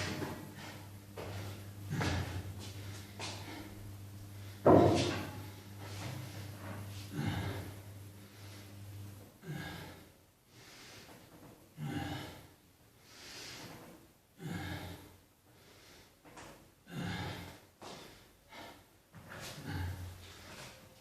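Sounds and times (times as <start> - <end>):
person breathing hard: 0.5 - 5.0, 5.8 - 11.2, 11.8 - 13.8, 14.4 - 16.2, 16.9 - 20.8.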